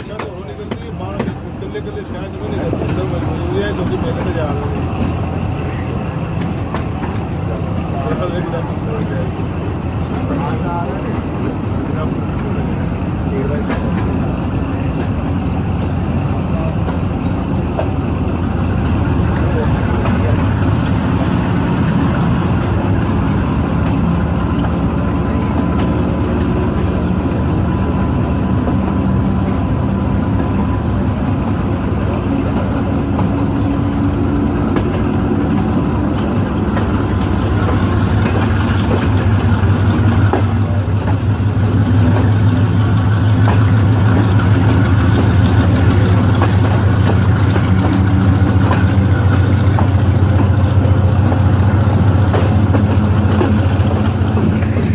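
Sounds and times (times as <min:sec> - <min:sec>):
diesel locomotive idling: 0:00.0 - 0:54.9.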